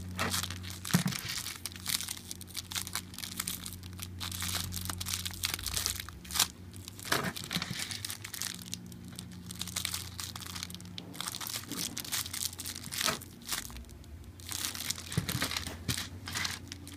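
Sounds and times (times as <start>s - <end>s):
plastic bags crinkling: 0.0s - 16.9s.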